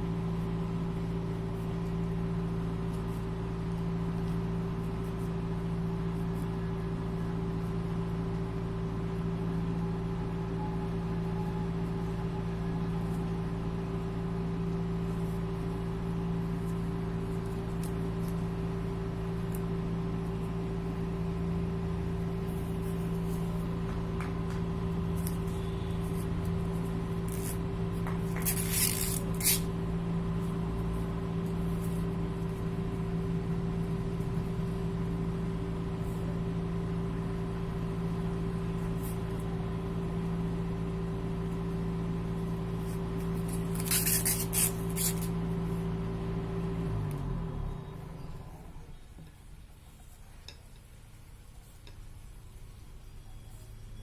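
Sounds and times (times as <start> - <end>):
machine hum: 0.0 - 50.1.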